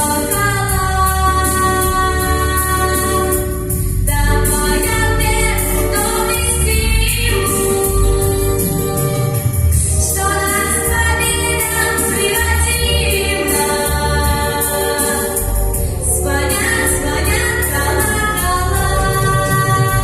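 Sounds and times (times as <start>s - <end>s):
instrumental backing track: 0.0s - 20.0s
vocal group singing: 0.0s - 20.0s.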